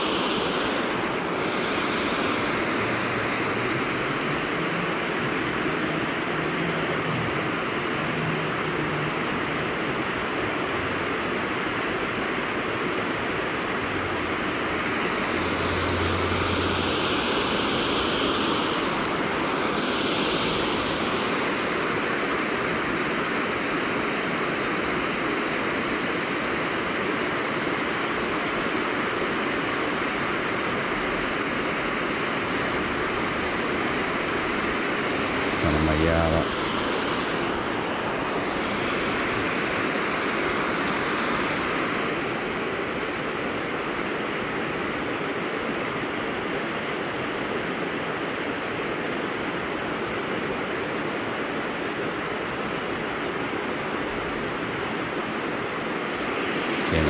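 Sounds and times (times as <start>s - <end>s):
water rushing over weir: 0.0s - 57.0s.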